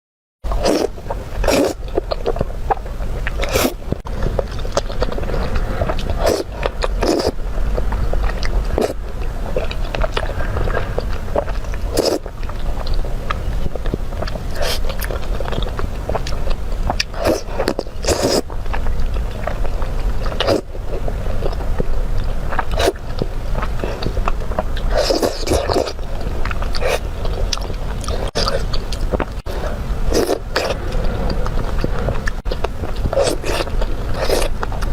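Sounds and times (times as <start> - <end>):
low hum: 0.5 - 34.9
person biting and chewing: 0.5 - 34.9.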